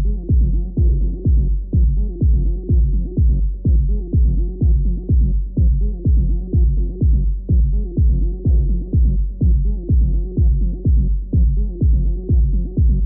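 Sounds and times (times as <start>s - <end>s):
muffled techno music: 0.0s - 13.0s.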